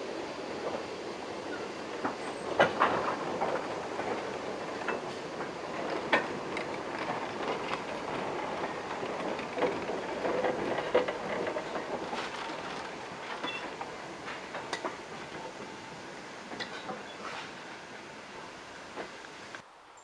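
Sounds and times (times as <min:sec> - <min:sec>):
train wheels rumbling on rail: 0:00.0 - 0:19.6
wheels clacking over rail joints: 0:00.4 - 0:19.6.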